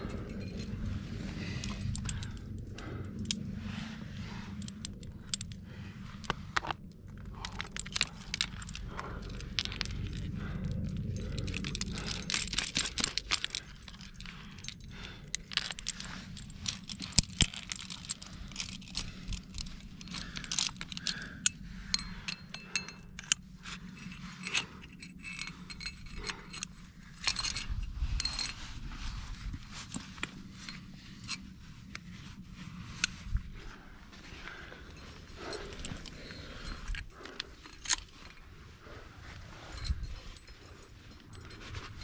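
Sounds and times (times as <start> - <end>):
carabiners clinking and jangling: 0.0 - 42.0
low rumble: 0.0 - 42.0.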